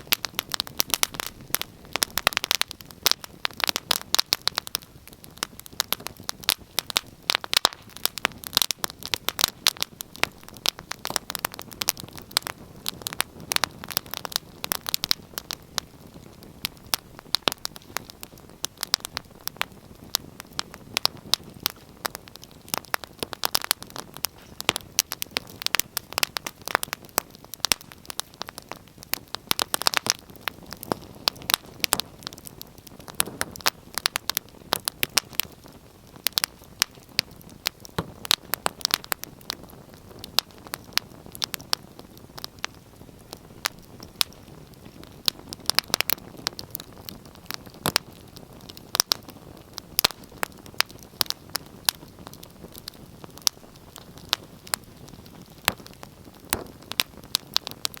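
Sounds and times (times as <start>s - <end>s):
faint hiss of flames: 0.0s - 58.0s
wood fire crackling and popping: 0.0s - 58.0s.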